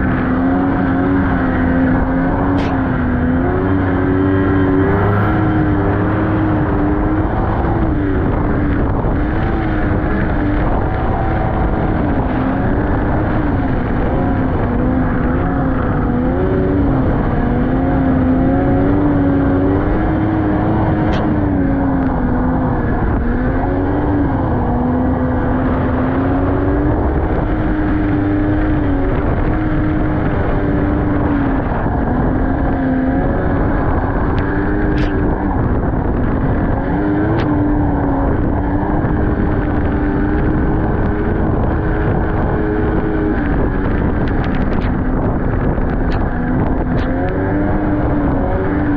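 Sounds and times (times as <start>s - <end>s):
snowmobile engine running: 0.0s - 48.9s
steady rushing noise: 0.0s - 48.9s.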